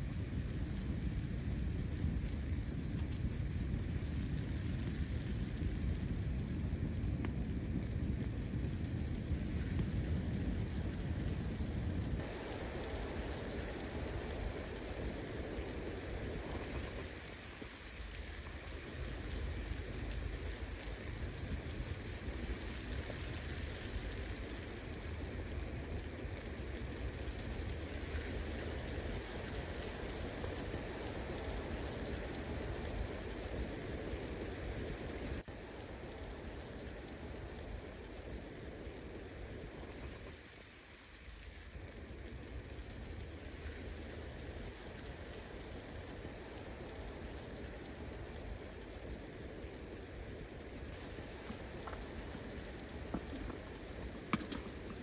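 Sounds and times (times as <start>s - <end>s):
wet snow falling on tent: 0.0s - 55.0s.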